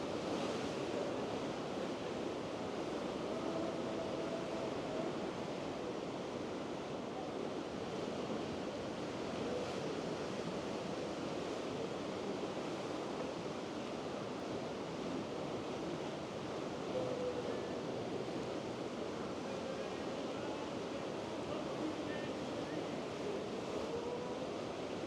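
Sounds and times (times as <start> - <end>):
sea surf washing: 0.0 - 25.0.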